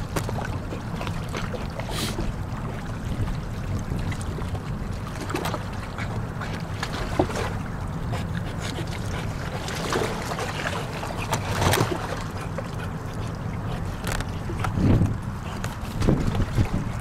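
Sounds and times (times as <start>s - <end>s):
dog paddling splashes: 0.0s - 17.0s
water lapping: 0.0s - 17.0s
wind rumble on microphone: 0.0s - 17.0s.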